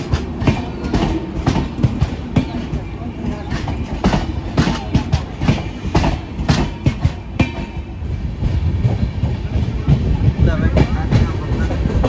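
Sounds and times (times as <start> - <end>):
train wheels clattering over rail joints: 0.0 - 12.0.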